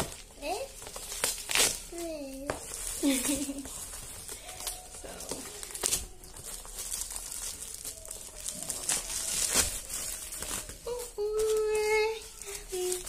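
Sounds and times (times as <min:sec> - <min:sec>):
plastic packaging crinkling: 0:00.0 - 0:13.0
plastic tearing: 0:00.0 - 0:13.0.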